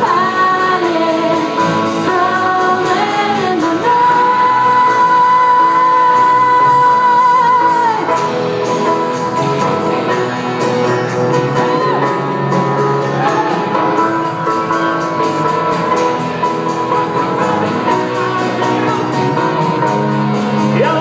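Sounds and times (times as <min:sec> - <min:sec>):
live rock band: 0:00.0 - 0:21.0.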